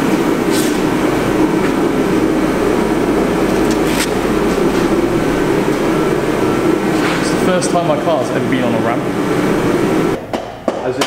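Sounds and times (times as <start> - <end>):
steady mechanical drone: 0.0 - 11.0.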